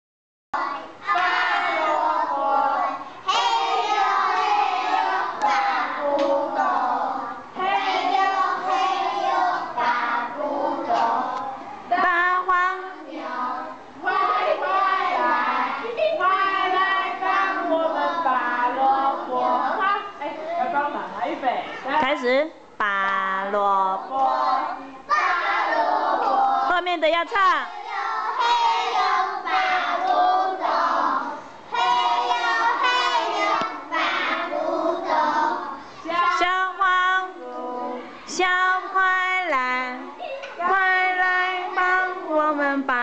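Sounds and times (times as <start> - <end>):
children singing: 0.6 - 20.1, 24.1 - 26.8, 27.8 - 43.0.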